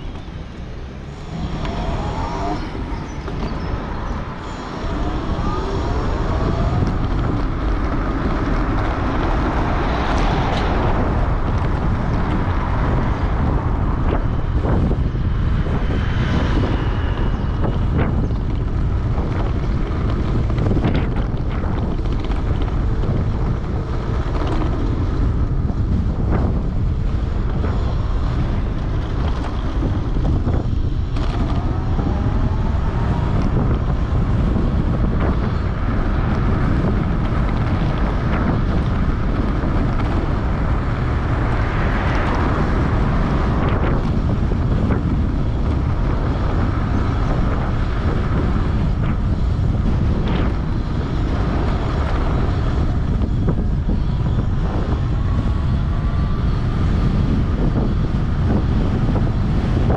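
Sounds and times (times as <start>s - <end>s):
wind buffeting the microphone: 0.0s - 59.9s.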